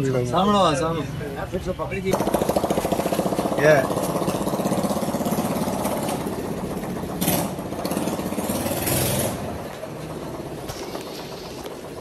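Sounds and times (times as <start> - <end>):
small engine running: 2.1 - 12.0.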